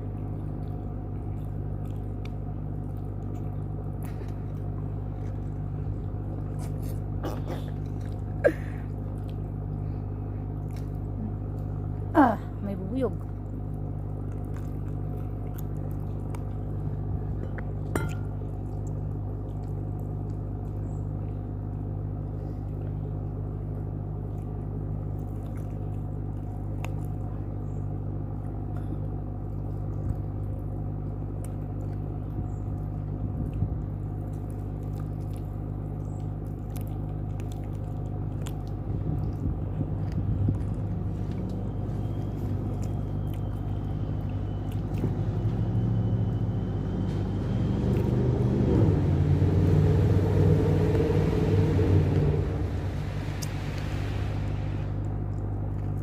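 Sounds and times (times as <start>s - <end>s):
close-up chewing and biting: 0.0s - 12.1s, 13.1s - 54.1s, 55.0s - 56.0s
steady low hum: 0.0s - 56.0s.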